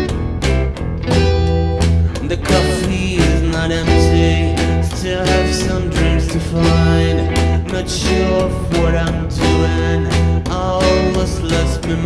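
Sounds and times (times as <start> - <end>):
bass guitar notes: 0.0 - 12.0
drums keeping a beat: 0.0 - 12.0
strummed acoustic guitar: 0.0 - 12.0.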